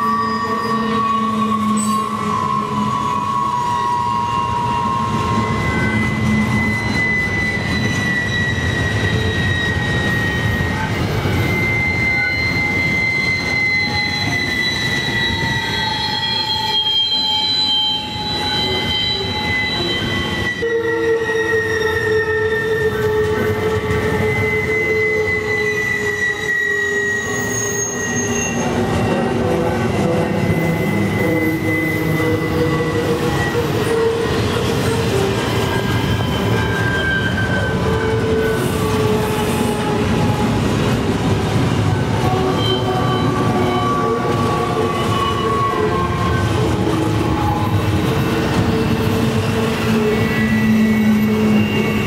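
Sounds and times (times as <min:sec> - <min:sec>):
train cars rumbling over bridge: 0:00.0 - 0:52.0
wheel squeal: 0:00.0 - 0:52.0.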